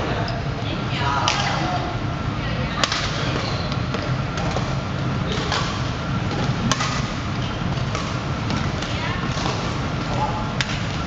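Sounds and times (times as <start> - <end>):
steady background din: 0.0 - 11.0.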